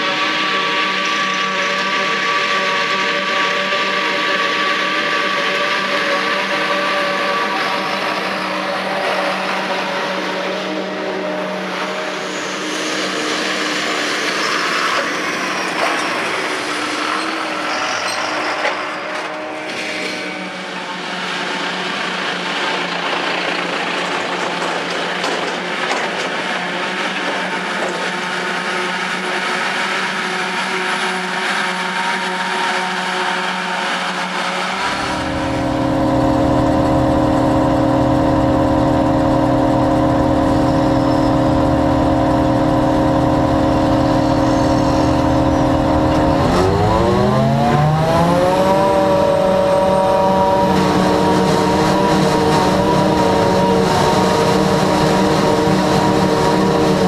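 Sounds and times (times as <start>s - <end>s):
forage harvester drone: 0.0s - 57.0s.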